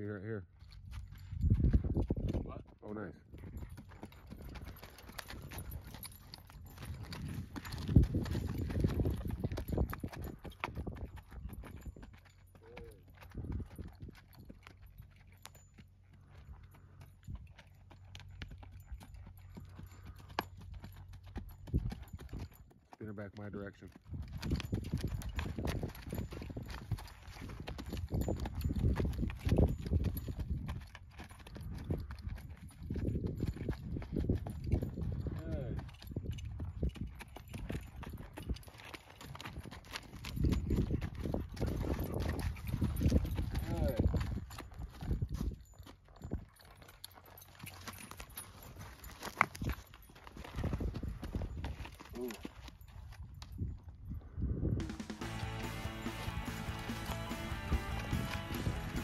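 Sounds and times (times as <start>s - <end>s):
horse hooves on dirt: 0.0s - 59.0s.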